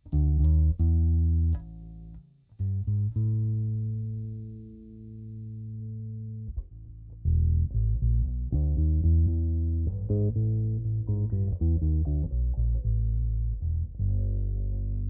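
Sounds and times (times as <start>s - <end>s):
electric bass plucked notes: 0.0s - 15.0s.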